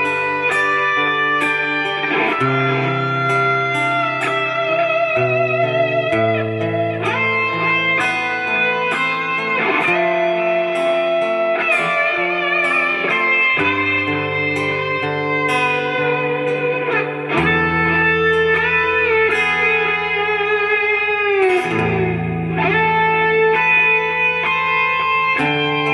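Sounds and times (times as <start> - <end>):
sliding guitar notes: 0.0 - 25.9.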